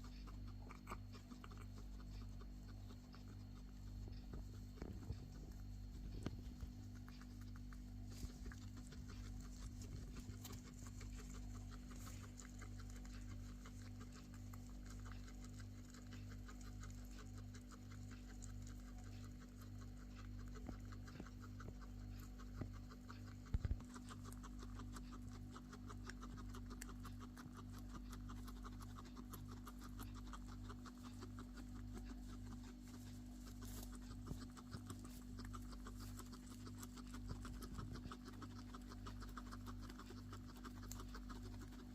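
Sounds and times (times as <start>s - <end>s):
guinea pig coughing and choking: 0.0s - 41.9s.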